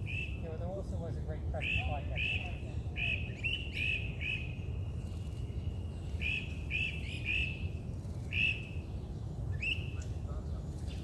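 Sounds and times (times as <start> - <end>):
bird chirping: 0.0 - 0.7, 1.6 - 11.0.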